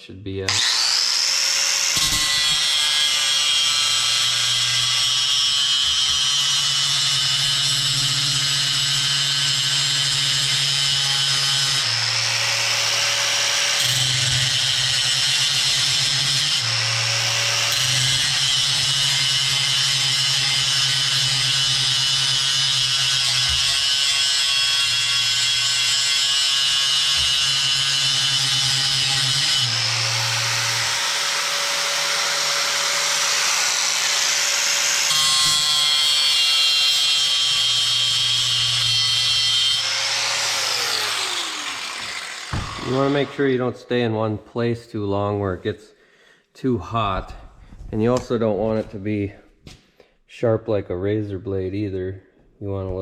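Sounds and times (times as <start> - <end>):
angle grinder grinding steel: 0.5 - 43.8.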